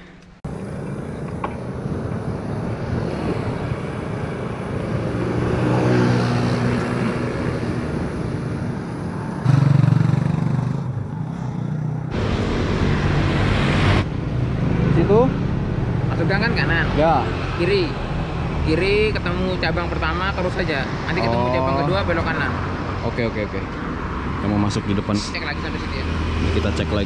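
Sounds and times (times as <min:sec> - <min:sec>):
road noise: 0:00.0 - 0:27.0
motor vehicles passing: 0:00.5 - 0:27.0.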